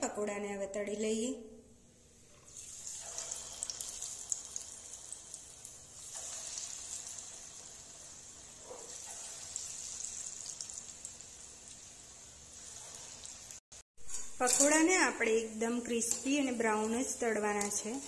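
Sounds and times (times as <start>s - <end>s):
batter deep-frying in oil: 2.2s - 18.0s.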